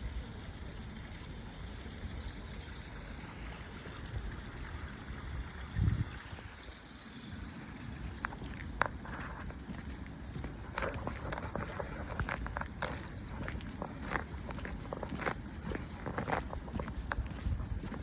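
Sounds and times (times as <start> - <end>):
water running and trickling: 0.0 - 18.0.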